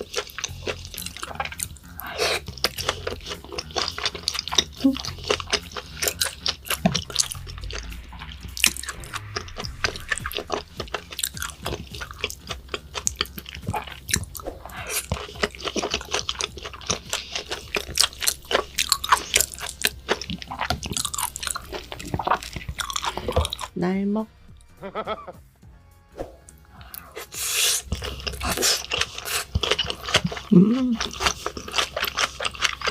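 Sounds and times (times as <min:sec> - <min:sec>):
person chewing food: 0:00.0 - 0:23.8, 0:26.7 - 0:32.9.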